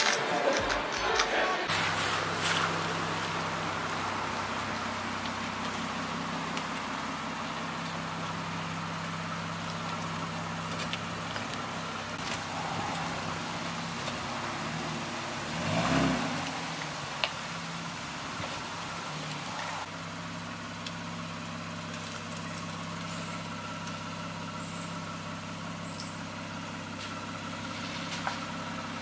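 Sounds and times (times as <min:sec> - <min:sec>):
car engine at low revs: 0:01.7 - 0:29.0.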